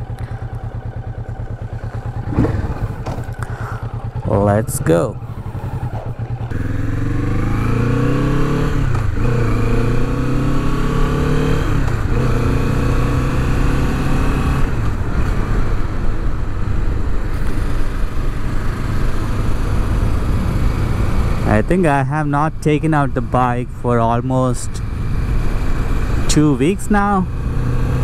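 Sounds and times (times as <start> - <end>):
motorcycle engine accelerating: 0.0 - 22.3, 23.0 - 28.0.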